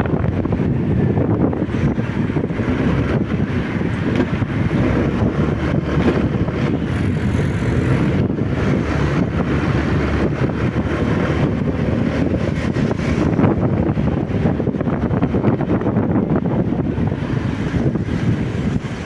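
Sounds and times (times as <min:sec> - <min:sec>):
motorcycle running: 0:00.0 - 0:19.0
road noise: 0:00.0 - 0:19.0
wind buffeting microphone: 0:00.0 - 0:19.0.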